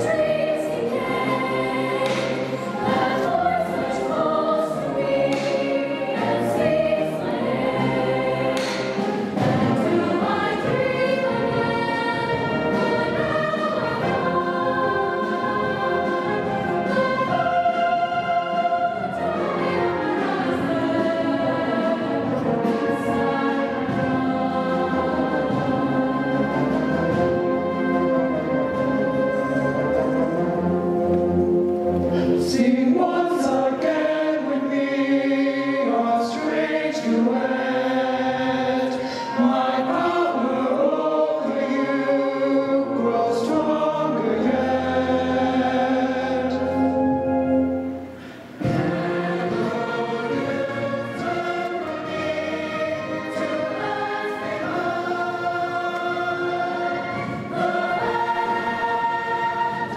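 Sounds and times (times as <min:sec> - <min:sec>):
band and keyboard accompaniment: 0:00.0 - 0:59.9
choir singing in harmony: 0:00.0 - 0:59.9.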